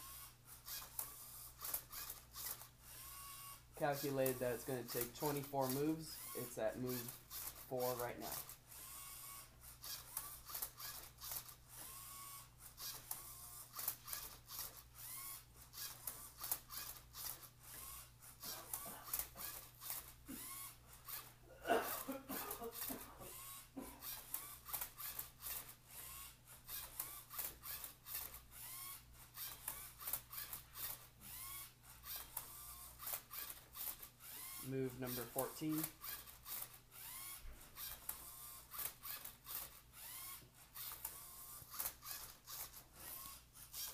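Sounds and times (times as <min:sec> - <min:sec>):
electric motors whining: 0:00.0 - 0:43.9.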